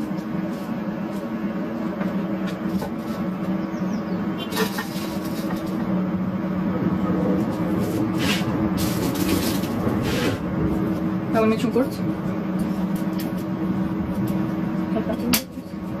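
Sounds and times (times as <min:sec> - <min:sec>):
mechanical motor hum: 0:00.0 - 0:16.0.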